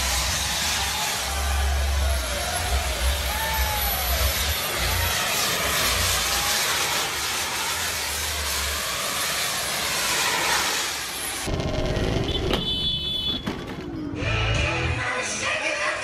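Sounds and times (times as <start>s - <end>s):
jet turbines hissing: 0.0s - 13.2s.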